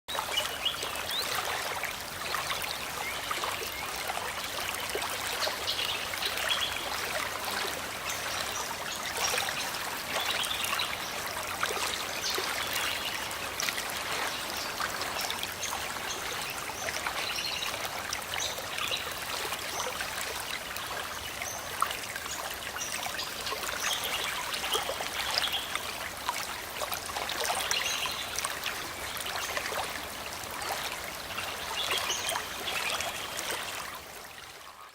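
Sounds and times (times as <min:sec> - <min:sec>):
river water running over rocks: 0:00.1 - 0:34.7.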